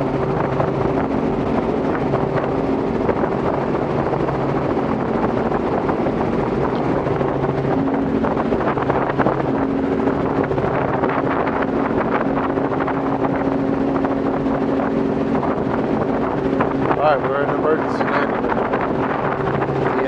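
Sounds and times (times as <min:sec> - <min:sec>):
helicopter engine and rotor drone: 0:00.0 - 0:20.0
wind rushing over microphone: 0:00.0 - 0:20.0.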